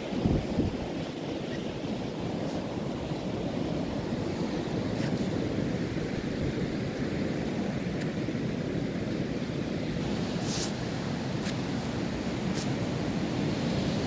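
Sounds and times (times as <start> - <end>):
wind buffeting microphone: 0.0 - 12.6
sea surf on beach: 0.0 - 14.0.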